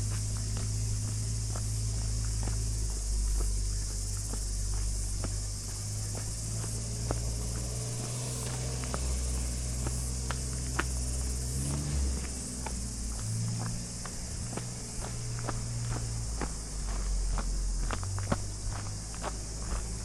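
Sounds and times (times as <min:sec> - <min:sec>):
footsteps on gravel: 0:00.0 - 0:20.0
insects chorus: 0:00.0 - 0:20.0
low rumble: 0:00.0 - 0:20.0.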